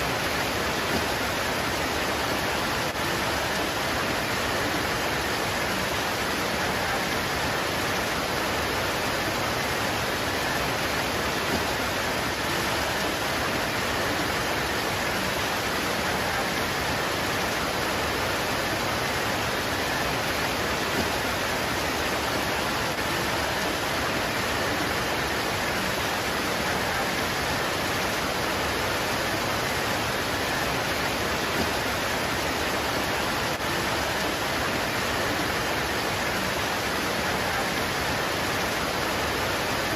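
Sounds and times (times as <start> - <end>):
rain pouring on leaves: 0.0 - 39.9.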